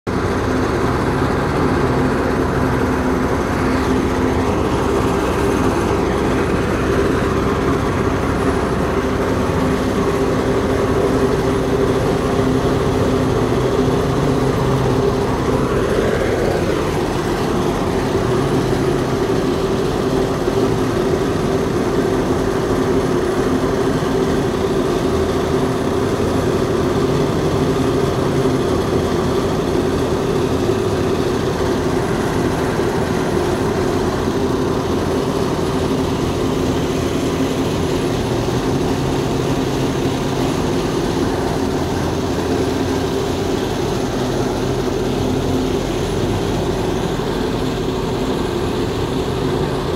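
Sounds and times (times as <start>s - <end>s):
heavy machinery engine running: 0.0s - 49.9s.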